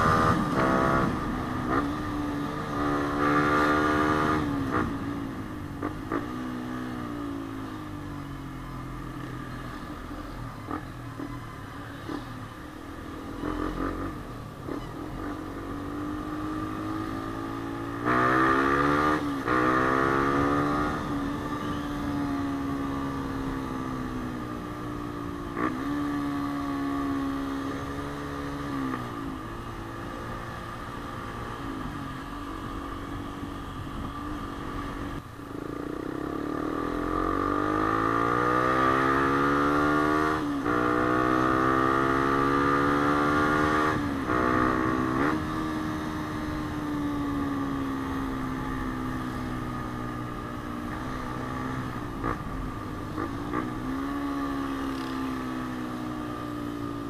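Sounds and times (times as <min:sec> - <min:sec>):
motorcycle engine revving: 0:00.0 - 0:07.7, 0:13.1 - 0:57.0.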